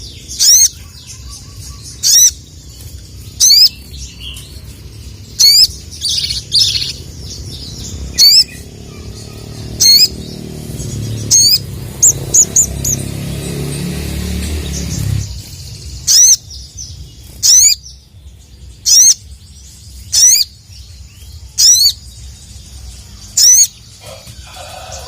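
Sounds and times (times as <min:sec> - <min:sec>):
bird chirping calls: 0:00.0 - 0:25.0.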